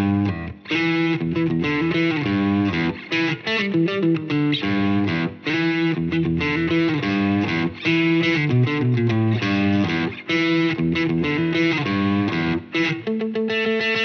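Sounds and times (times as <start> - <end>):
distorted electric guitar music: 0.0 - 14.0.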